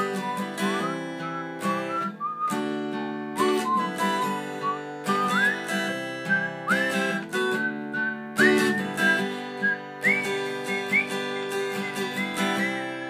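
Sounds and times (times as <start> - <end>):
acoustic guitar strumming: 0.0 - 13.0
woman whistling a melody: 0.0 - 13.0.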